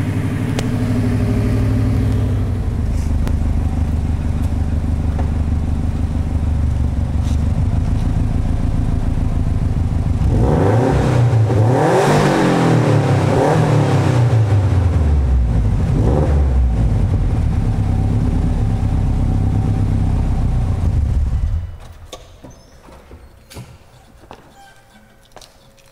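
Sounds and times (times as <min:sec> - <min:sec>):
car engine idling and revving: 0:00.0 - 0:22.1.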